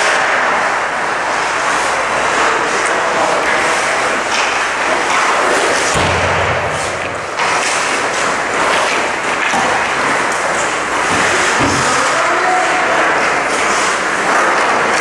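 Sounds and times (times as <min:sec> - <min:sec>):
hockey stick and puck clatter: 0:00.0 - 0:00.8, 0:01.4 - 0:15.0
skates scraping on ice: 0:01.4 - 0:15.0.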